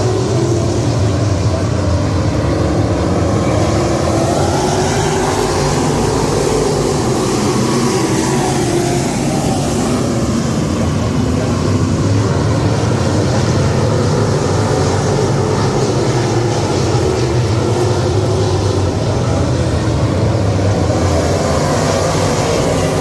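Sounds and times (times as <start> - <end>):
race car engines running: 0.0 - 23.0.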